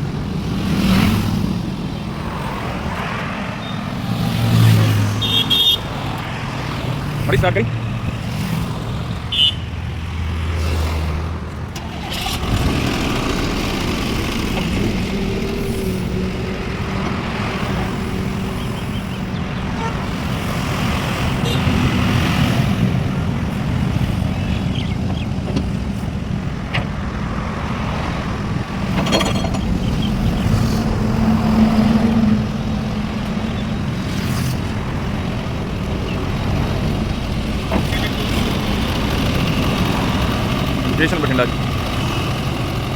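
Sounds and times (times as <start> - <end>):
diesel engine running: 3.9 - 42.9.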